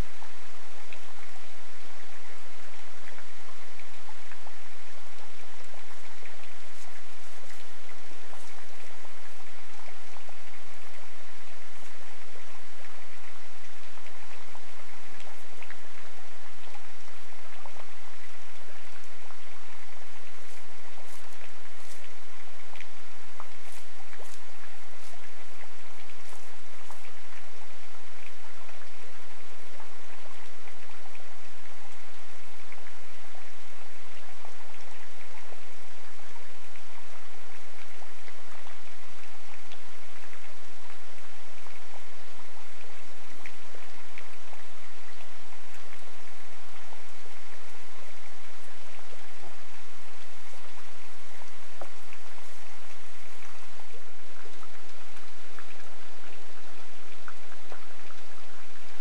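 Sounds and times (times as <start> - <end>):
raindrops pattering on surface: 0.0 - 59.0
steady rain hiss: 0.0 - 59.0.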